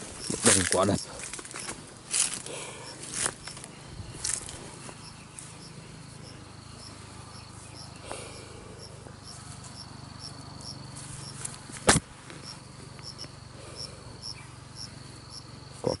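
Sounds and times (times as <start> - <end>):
constant high drone: 0.0 - 16.0
insects chirping: 0.0 - 16.0.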